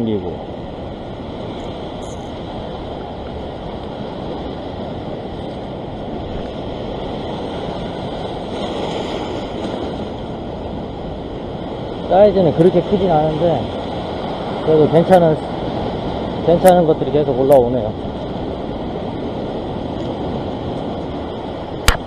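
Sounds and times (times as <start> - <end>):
ocean surf breaking over rocks: 0.0 - 22.0.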